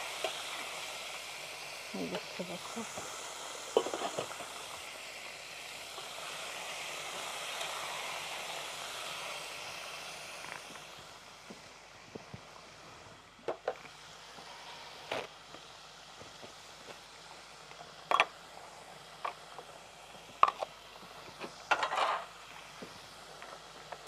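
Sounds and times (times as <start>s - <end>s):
chicken frying in hot oil: 0.0s - 24.0s.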